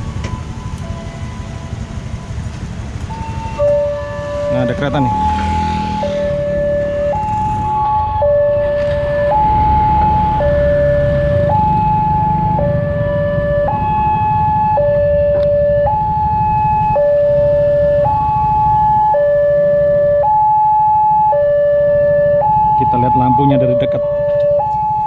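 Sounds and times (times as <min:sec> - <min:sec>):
level crossing alarm two-tone: 0:03.1 - 0:25.0.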